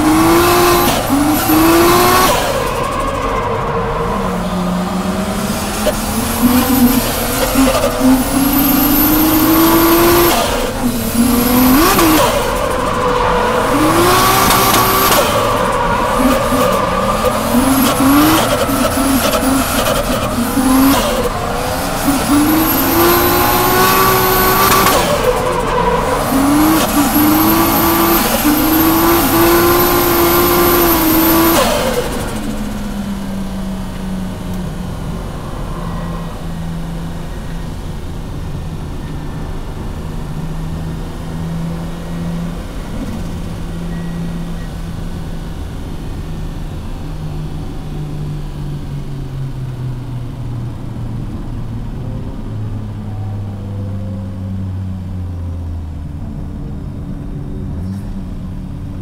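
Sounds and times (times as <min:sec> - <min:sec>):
car engine revving: 0:00.0 - 0:54.8.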